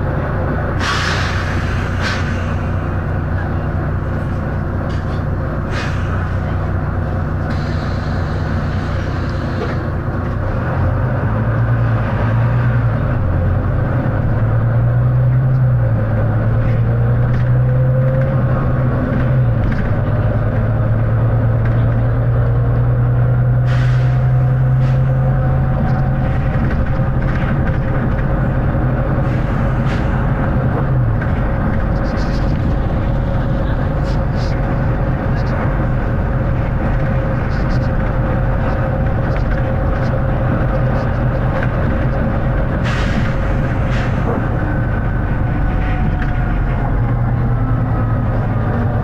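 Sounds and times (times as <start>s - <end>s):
bus diesel engine droning: 0.0s - 49.0s.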